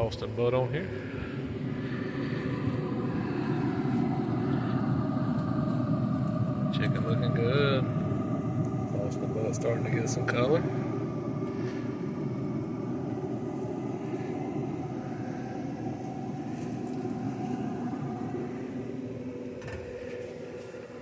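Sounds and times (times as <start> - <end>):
low rumble with faint hum: 0.0 - 21.0.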